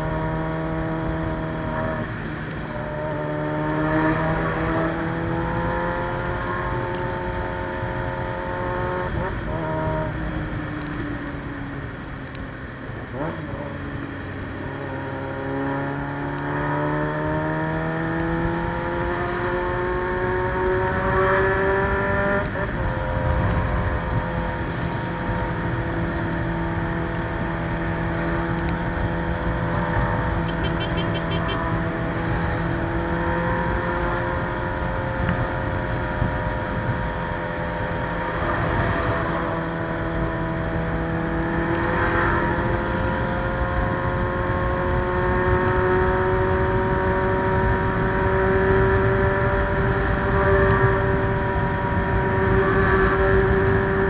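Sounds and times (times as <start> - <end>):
motorcycle engine accelerating: 0.0 - 12.2, 12.9 - 54.0.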